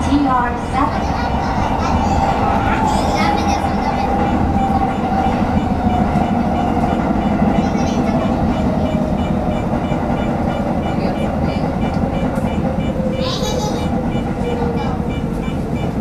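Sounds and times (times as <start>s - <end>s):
train motor whine: 0.0s - 16.0s
train wheels rumbling on rails: 0.0s - 16.0s.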